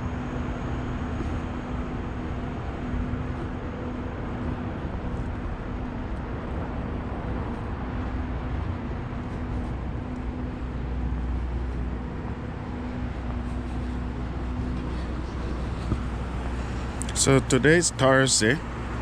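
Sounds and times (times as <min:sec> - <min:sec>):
deep rumble: 0:00.0 - 0:17.1
engine hum: 0:00.0 - 0:19.0
passing vehicles: 0:00.0 - 0:19.0.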